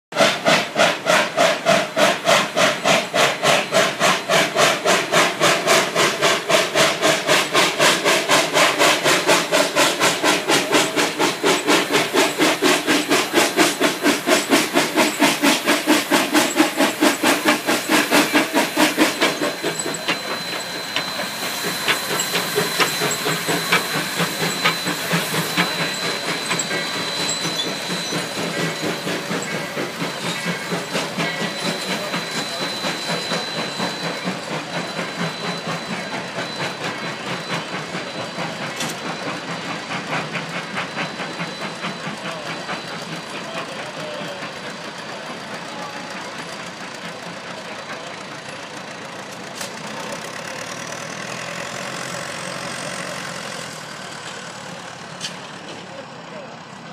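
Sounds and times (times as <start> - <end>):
steam locomotive exhaust chuffing: 0.1 - 56.9
steam hiss with high tone: 0.2 - 55.4.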